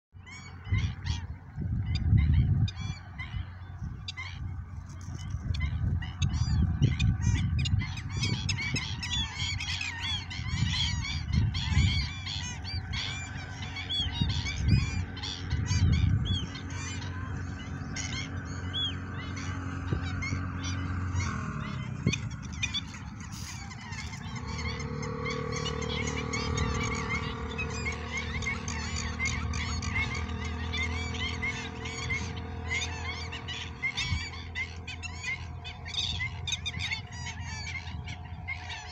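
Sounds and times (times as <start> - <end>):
birds yapping calls: 0.2 - 38.9
low rumble: 0.4 - 38.8.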